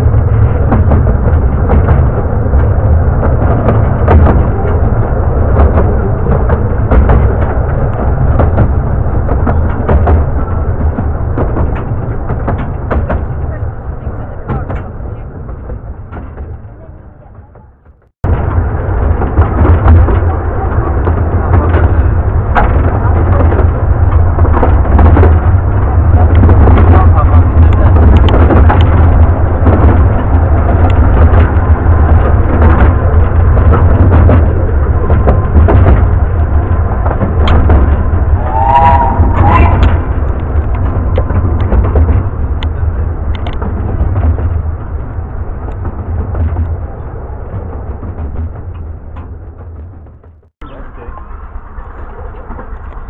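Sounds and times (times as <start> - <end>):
railway carriage rumbling: 0.0 - 53.0
wheels clicking on rails: 0.0 - 53.0
wind buffeting microphone: 0.0 - 53.0.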